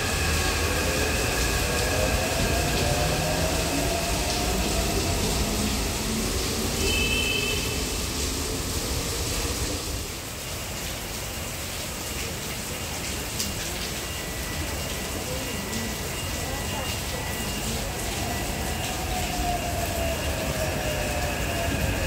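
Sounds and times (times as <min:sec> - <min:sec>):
train wheel rumble: 0:00.0 - 0:10.2, 0:14.2 - 0:22.0.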